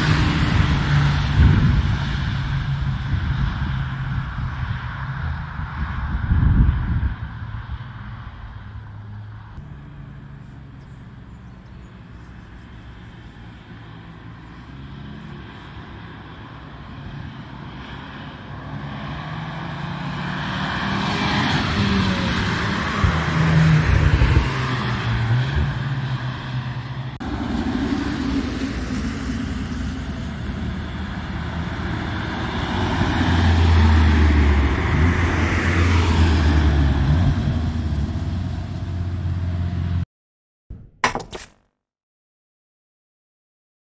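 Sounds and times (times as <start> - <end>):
car engines accelerating: 0.0 - 40.0.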